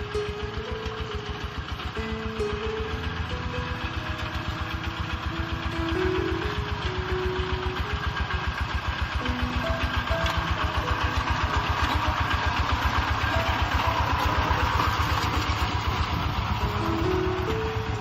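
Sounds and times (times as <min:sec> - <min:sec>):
diesel engine running: 0:00.0 - 0:18.0
faint electronic melody: 0:00.0 - 0:18.0.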